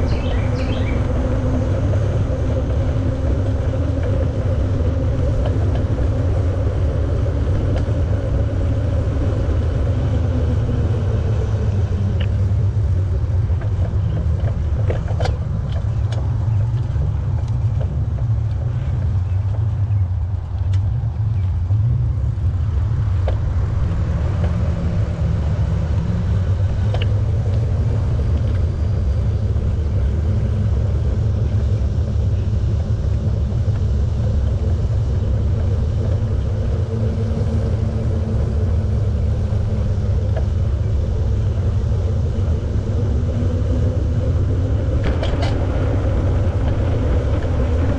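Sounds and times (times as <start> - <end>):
bicycle tyres rolling on pavement: 0.0 - 47.9
wind buffeting microphone: 0.0 - 47.9.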